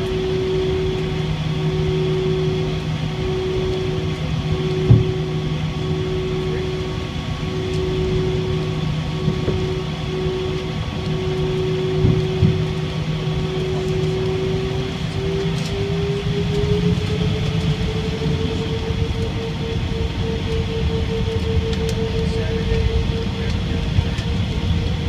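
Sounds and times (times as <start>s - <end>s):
jet engines humming in cabin: 0.0s - 25.0s.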